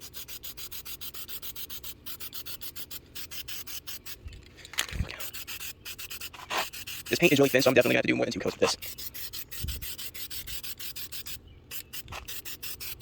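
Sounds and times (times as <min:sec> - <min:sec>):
spray can ball rattling: 0:00.0 - 0:13.0.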